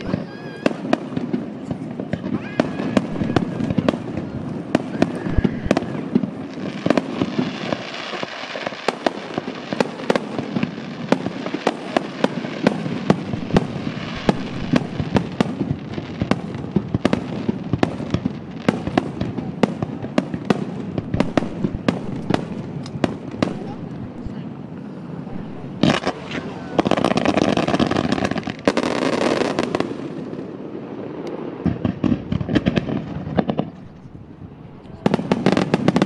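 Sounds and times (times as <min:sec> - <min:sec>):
fireworks bursting with sharp bangs: 0:00.0 - 0:36.0
hissing crackle of fireworks: 0:00.0 - 0:36.0.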